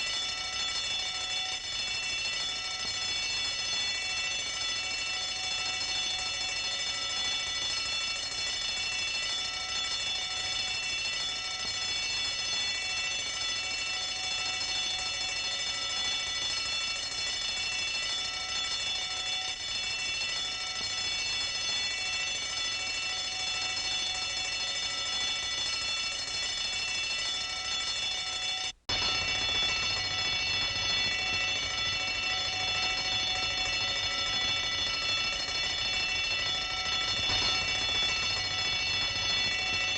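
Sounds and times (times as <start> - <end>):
alarm bell ringing: 0.0 - 39.9.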